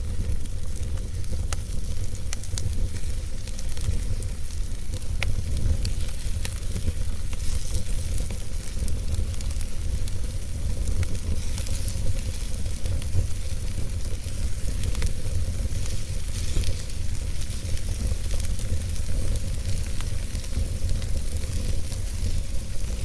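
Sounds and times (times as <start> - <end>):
wood fire crackling and hissing: 0.0 - 23.0.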